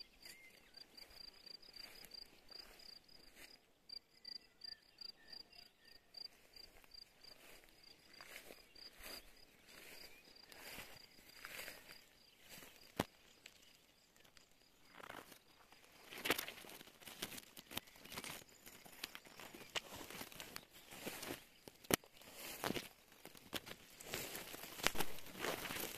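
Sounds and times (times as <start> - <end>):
cricket chirping: 0.0 - 25.9
footsteps through grass: 0.2 - 3.6, 6.3 - 25.9.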